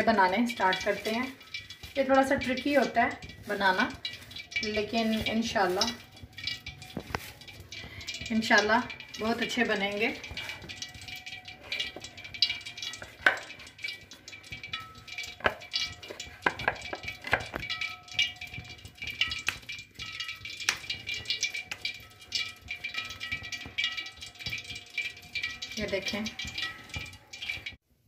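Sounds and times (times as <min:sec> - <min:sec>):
dough kneaded by hand: 0:00.0 - 0:27.9.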